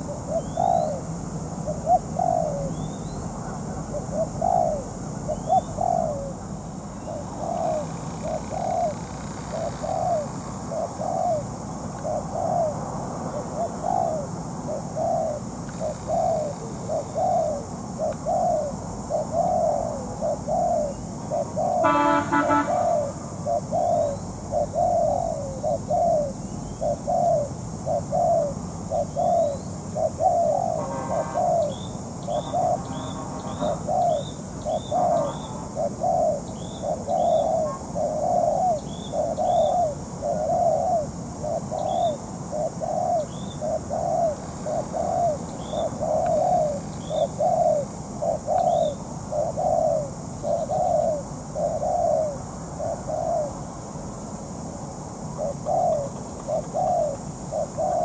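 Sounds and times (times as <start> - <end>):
small birds chirping: 0.0 - 53.6, 55.3 - 58.0
dove cooing: 0.0 - 53.7, 55.3 - 58.0.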